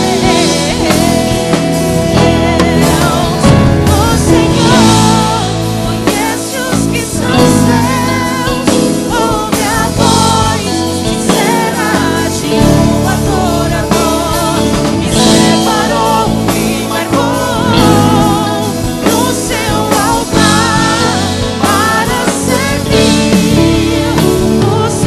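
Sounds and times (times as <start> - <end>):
instrumental backing: 0.0 - 25.0
person singing with vibrato: 0.0 - 25.0.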